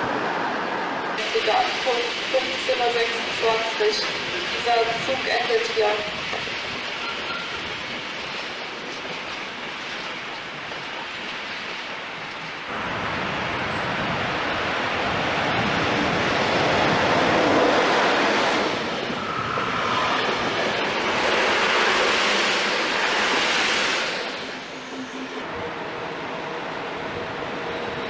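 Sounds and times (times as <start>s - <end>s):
train passing on rails: 0.0s - 28.0s.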